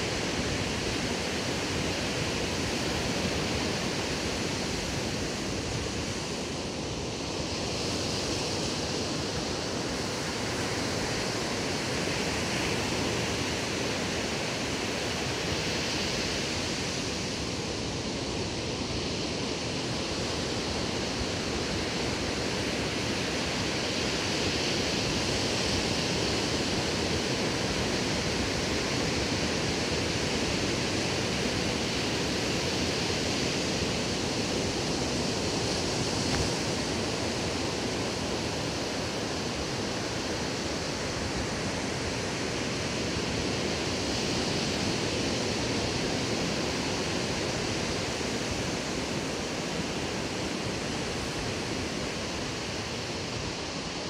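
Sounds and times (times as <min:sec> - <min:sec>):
ocean surf on sandy beach: 0:00.0 - 0:54.0.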